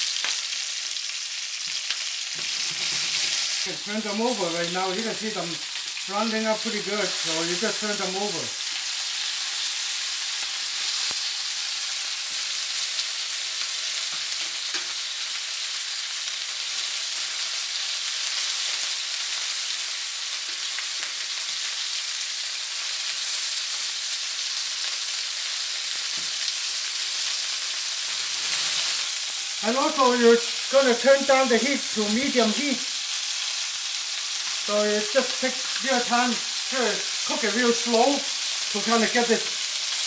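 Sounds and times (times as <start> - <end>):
chicken wings sizzling in oil: 0.0 - 40.0.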